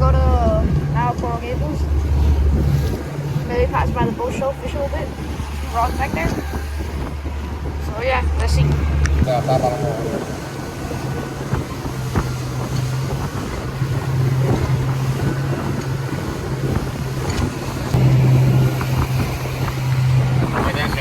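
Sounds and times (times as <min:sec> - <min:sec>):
motorboat engine droning: 0:00.0 - 0:21.0
wind buffeting microphone: 0:00.0 - 0:21.0.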